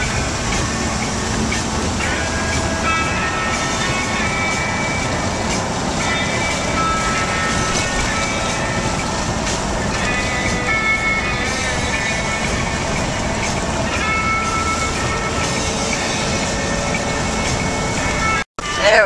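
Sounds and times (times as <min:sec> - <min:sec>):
tyres rushing through water: 0:00.0 - 0:19.0.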